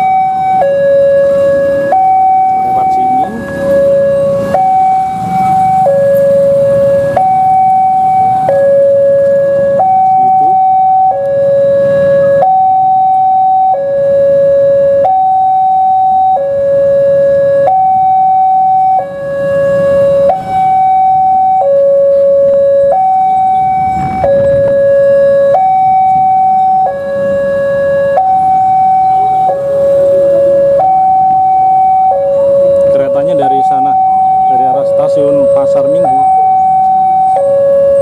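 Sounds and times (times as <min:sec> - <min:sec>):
two-tone crossing alarm: 0:00.0 - 0:38.0.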